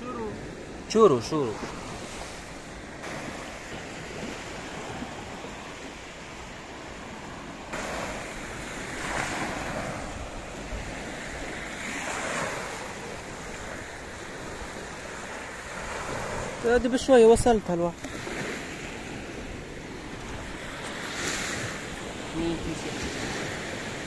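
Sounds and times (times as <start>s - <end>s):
waves washing on beach: 0.0s - 24.0s.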